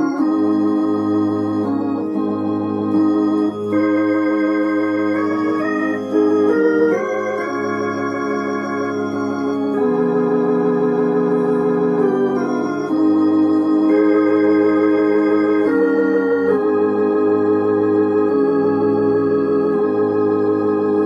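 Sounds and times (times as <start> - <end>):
hymn played on organ voice: 0.0 - 21.0.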